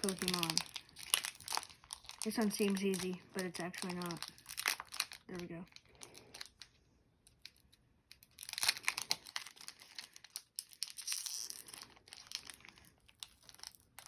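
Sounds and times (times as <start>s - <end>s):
foil wrapper crinkling and tearing: 0.0s - 6.7s, 7.3s - 14.0s.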